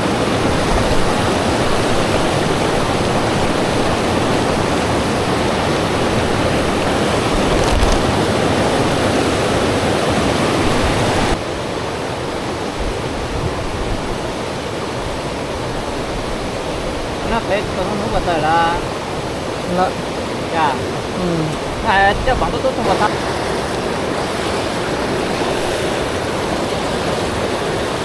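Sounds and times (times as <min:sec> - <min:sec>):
rushing river water: 0:00.0 - 0:28.0.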